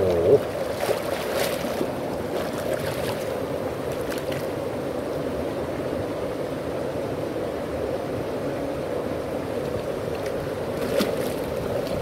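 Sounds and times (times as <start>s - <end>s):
stream flowing over pebbles: 0.0s - 12.0s.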